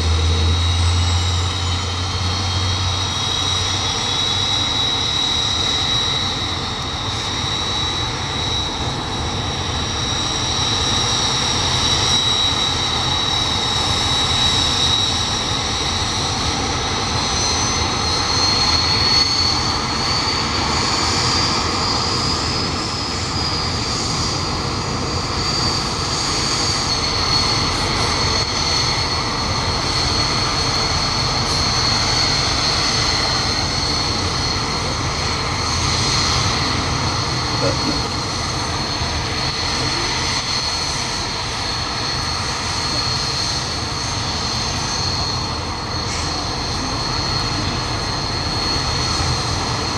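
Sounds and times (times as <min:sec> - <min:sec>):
jet engines idling: 0:00.0 - 0:49.9.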